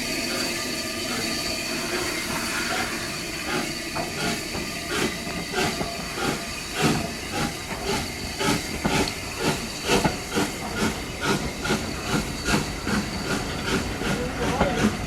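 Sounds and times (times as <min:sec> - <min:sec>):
steam hissing: 0:00.0 - 0:15.0
steam locomotive exhaust chuffing: 0:00.0 - 0:15.0.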